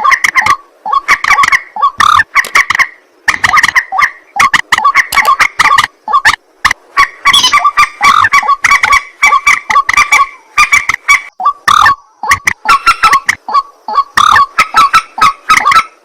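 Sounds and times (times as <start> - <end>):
waterhen croaking calls: 0.0 - 16.0.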